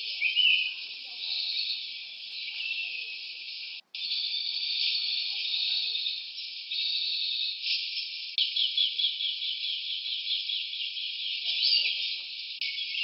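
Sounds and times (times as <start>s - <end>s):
high-pitched insect chorus: 0.0s - 13.0s
short repeated calls: 0.0s - 13.0s.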